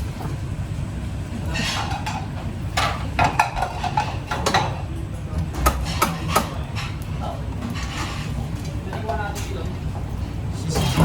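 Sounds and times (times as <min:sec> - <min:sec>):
utensils clanking on pots: 0:01.4 - 0:11.0.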